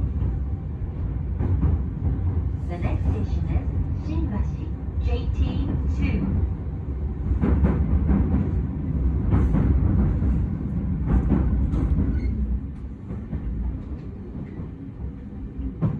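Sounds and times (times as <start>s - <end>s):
train carriage rumble: 0.0s - 15.9s.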